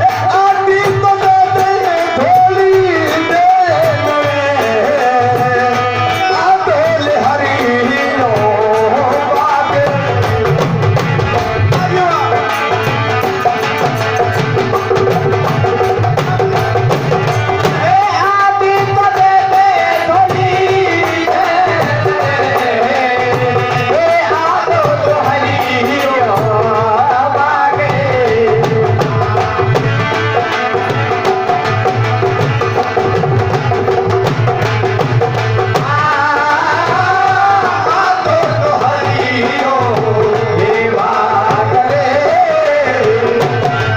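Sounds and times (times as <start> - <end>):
person singing folk melody: 0.0 - 13.2, 16.0 - 31.2, 35.7 - 43.9
hand drum percussion: 0.0 - 43.9.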